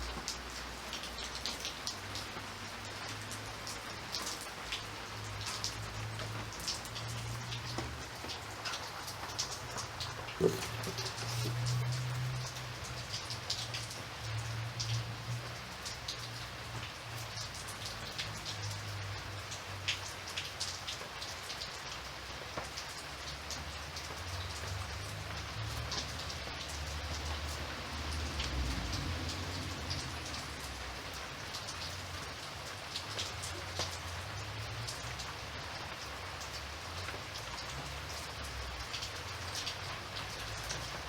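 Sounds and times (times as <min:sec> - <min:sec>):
rain hiss: 0:00.0 - 0:41.0.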